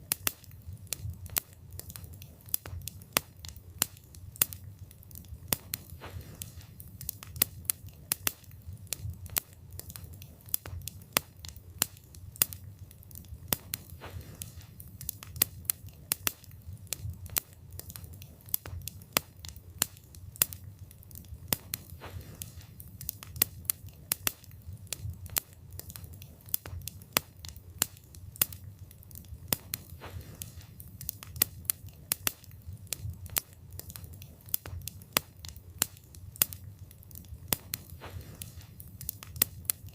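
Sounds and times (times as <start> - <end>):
low rumble of flame: 0.0 - 39.9
wood crackling and popping: 0.0 - 39.9.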